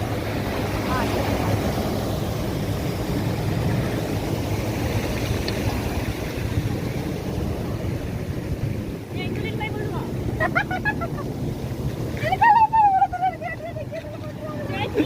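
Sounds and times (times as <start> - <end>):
water rushing over dam: 0.0 - 15.0.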